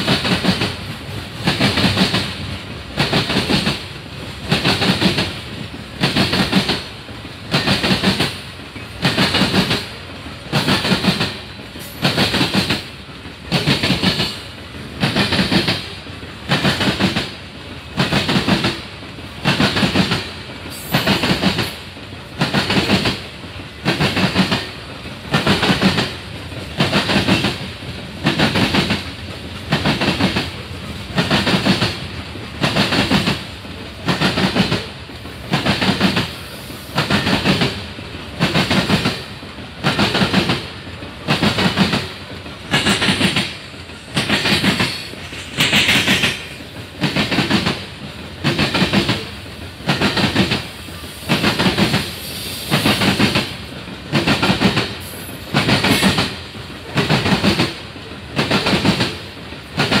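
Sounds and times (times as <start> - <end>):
freight train rolling past: 0.0 - 60.0.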